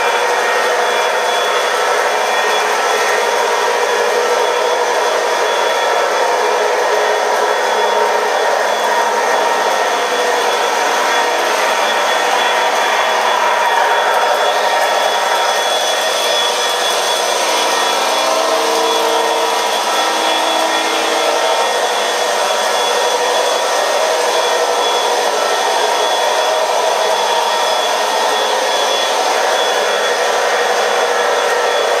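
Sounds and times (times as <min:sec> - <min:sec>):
model train rolling on rails: 0:00.0 - 0:32.0.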